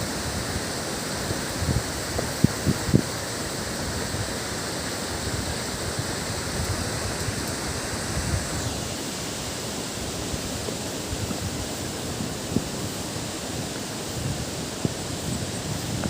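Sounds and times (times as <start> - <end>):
waterfall rushing: 0.0 - 16.0
wind on microphone: 0.0 - 16.0.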